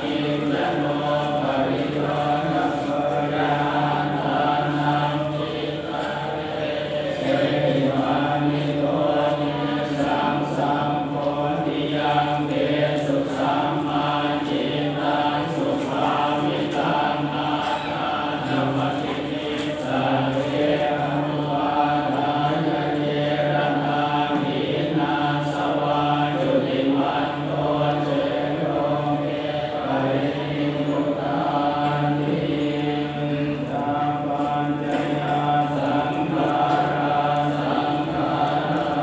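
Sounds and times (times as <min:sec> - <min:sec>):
monotone chanting: 0:00.0 - 0:39.0.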